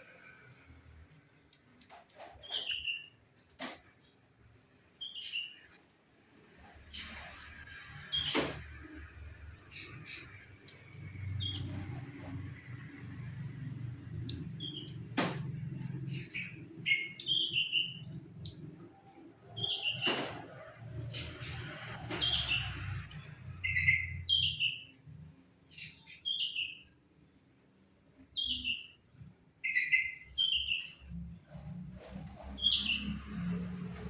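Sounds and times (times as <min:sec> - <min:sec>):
birds chirping: 0:00.0 - 0:05.9, 0:06.5 - 0:34.0.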